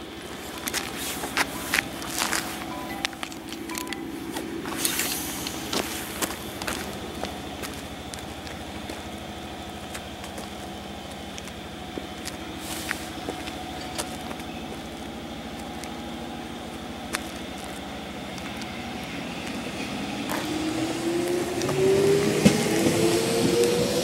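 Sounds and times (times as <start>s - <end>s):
electric train running hum: 0.0s - 24.0s.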